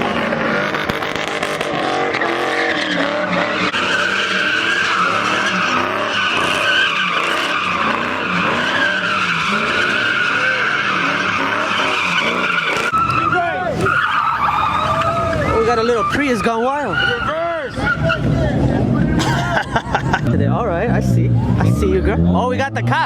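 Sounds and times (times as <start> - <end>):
tyres screeching: 0.0 - 20.0
car engine revving: 0.0 - 23.0.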